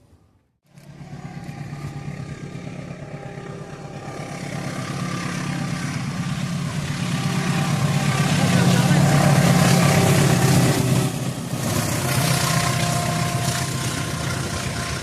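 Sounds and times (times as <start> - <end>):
train engine hum: 0.0 - 15.0
wheel and rail noise: 0.0 - 15.0.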